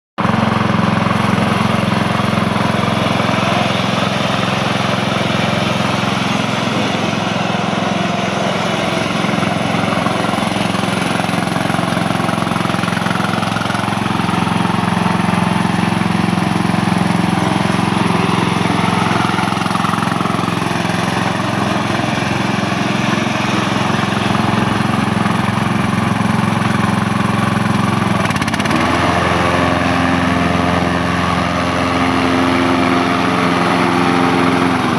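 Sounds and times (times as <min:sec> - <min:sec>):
riding mower engine running: 0:00.2 - 0:34.9.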